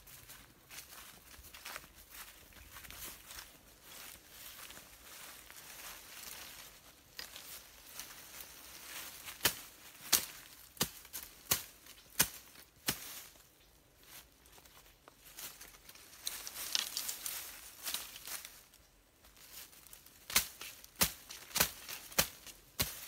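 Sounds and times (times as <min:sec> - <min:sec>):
dry leaves rustling and crackling: 0:00.0 - 0:23.0.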